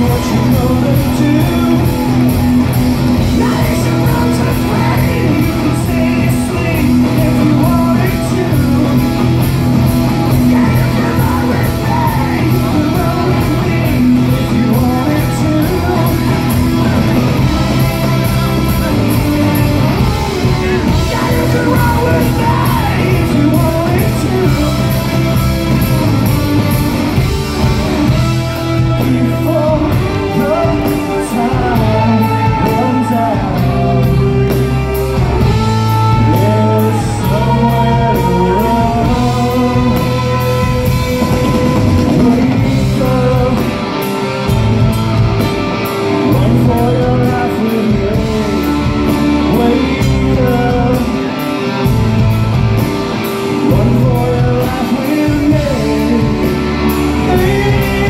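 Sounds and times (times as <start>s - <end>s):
man singing: 0.0s - 44.9s, 45.8s - 51.9s, 53.2s - 58.0s
bass guitar: 0.0s - 58.0s
drums: 0.0s - 58.0s
electric guitars: 0.0s - 58.0s.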